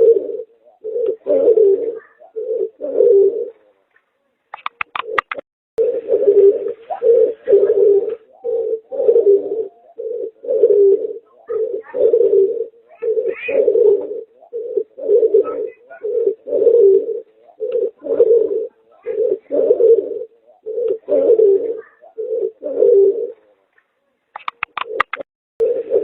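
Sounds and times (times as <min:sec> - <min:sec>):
pigeon cooing: 0:00.0 - 0:26.0.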